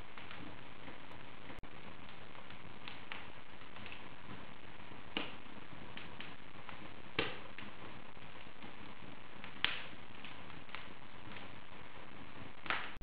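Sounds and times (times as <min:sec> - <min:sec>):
fire popping: 0:00.0 - 0:13.0
wood fire crackling: 0:00.0 - 0:13.0.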